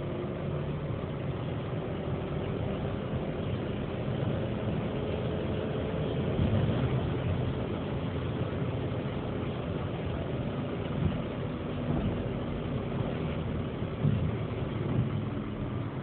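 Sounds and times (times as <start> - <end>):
car engine at high speed: 0.0 - 16.0
road and wind noise: 0.0 - 16.0.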